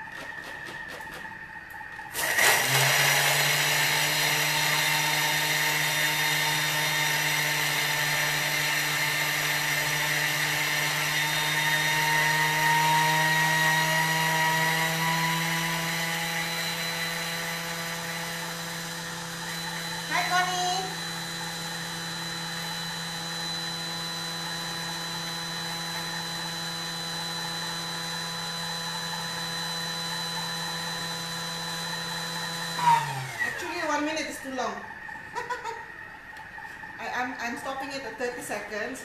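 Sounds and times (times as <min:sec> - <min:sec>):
kitchen machine blade whirring: 0:00.0 - 0:39.0.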